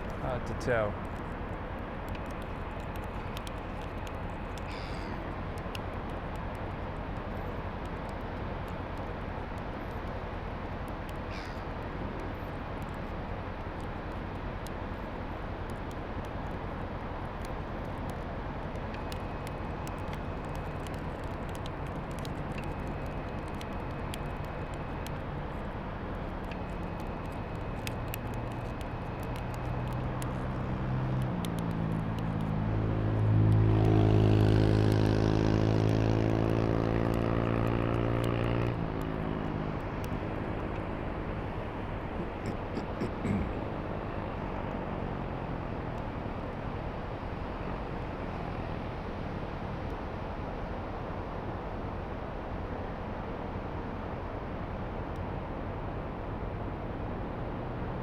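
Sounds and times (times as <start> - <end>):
wind: 0.0 - 58.0.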